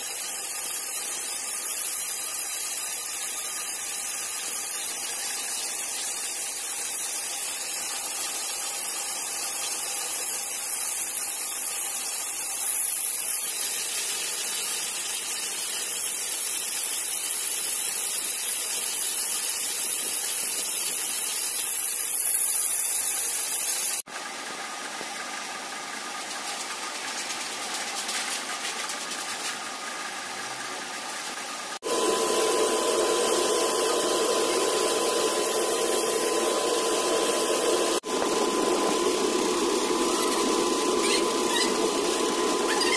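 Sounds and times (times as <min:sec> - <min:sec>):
metal lathe cutting metal: 0:00.0 - 0:24.0, 0:31.8 - 0:42.9
twist drill boring metal: 0:00.0 - 0:24.1, 0:31.8 - 0:42.9.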